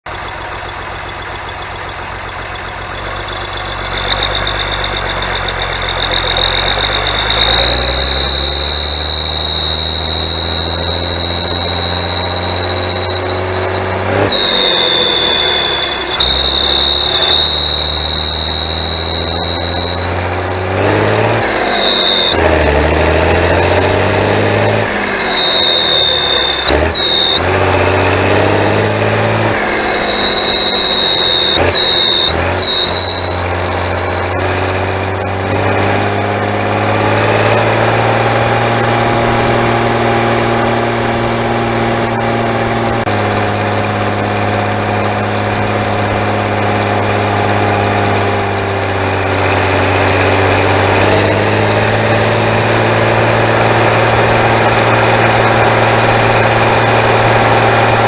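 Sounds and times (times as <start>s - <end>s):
tractor diesel engine running: 0.0s - 58.0s
turbocharger whistle: 0.0s - 58.0s.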